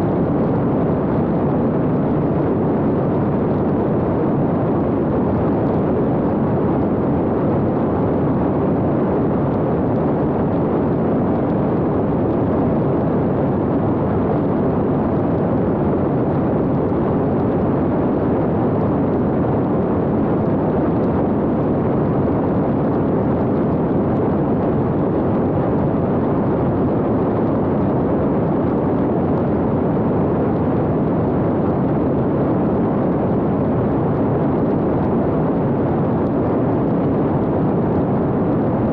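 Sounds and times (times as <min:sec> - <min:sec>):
airflow over microphone: 0:00.0 - 0:38.9.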